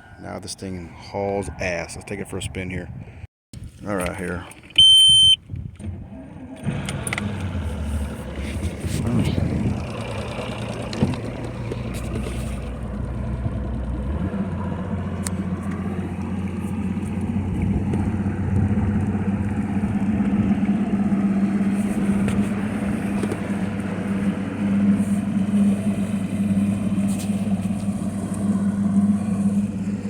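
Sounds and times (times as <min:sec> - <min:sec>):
outboard motor running: 0:04.8 - 0:30.0.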